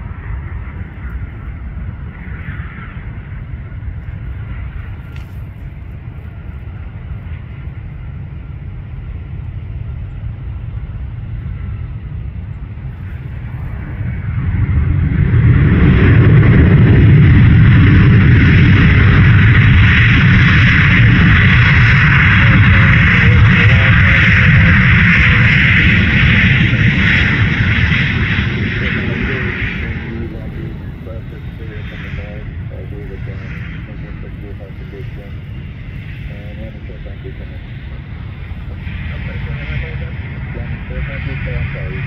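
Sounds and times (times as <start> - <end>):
jet engine low rumble: 0.0 - 42.0
loud rush of jet noise: 0.0 - 42.0.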